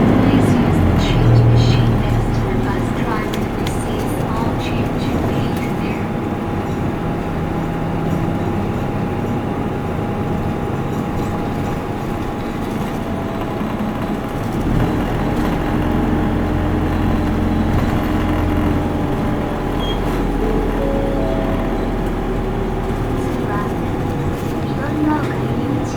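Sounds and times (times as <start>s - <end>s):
bus diesel engine running: 0.0s - 25.9s.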